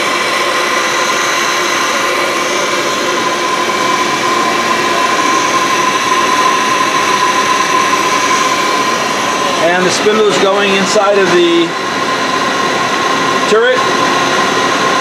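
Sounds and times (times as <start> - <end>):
lathe spindles humming with whine: 0.0 - 15.0.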